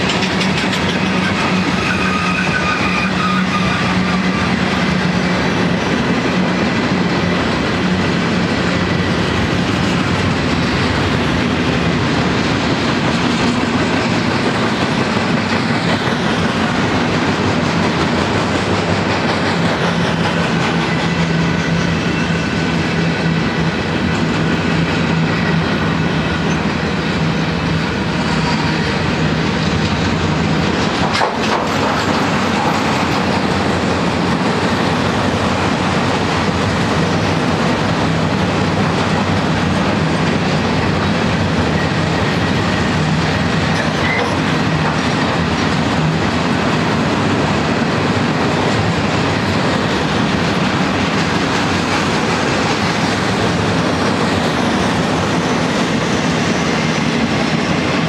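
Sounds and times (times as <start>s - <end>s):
train clank: 0.0s - 58.0s
train wheels rumbling on rails: 0.0s - 58.0s.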